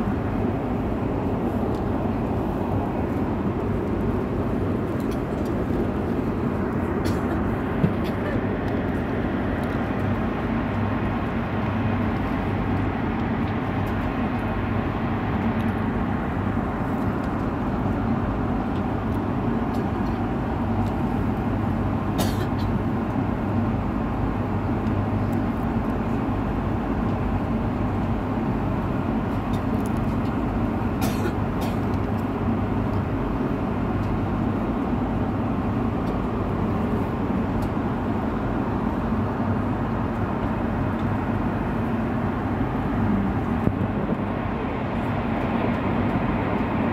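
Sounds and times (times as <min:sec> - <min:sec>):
airplane cabin drone: 0:00.0 - 0:46.9.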